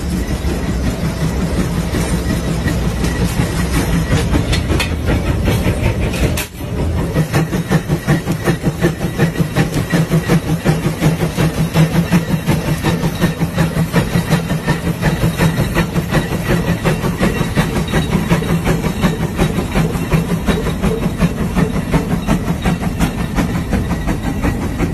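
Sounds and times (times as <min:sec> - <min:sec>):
steam engine exhaust chuffing: 0:00.0 - 0:24.9
steam hissing: 0:00.0 - 0:24.9.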